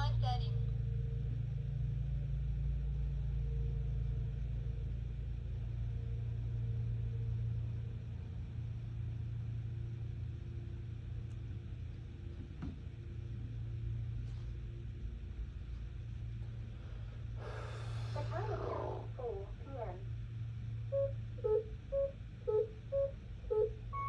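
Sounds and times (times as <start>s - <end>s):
low engine rumble with hum: 0.0s - 24.0s.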